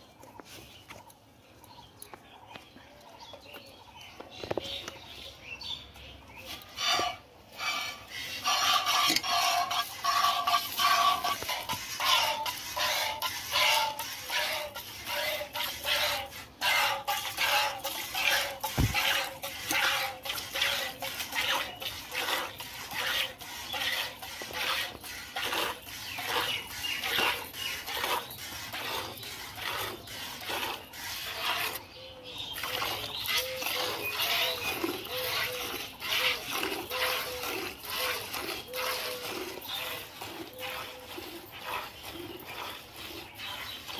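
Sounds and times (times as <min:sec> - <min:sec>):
milk squirting into metal pail: 0:06.6 - 0:31.9, 0:32.6 - 0:43.9.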